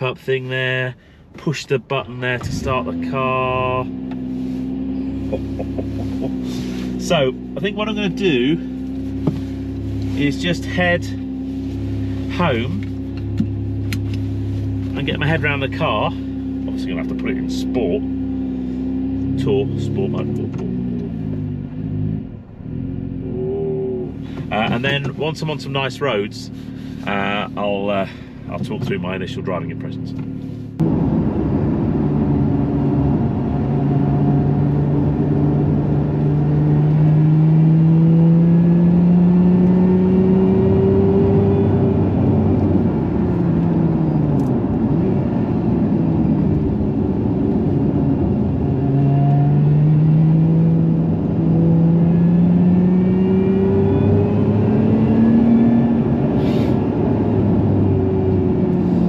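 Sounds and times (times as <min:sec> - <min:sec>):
car engine revving: 0:01.5 - 0:59.0.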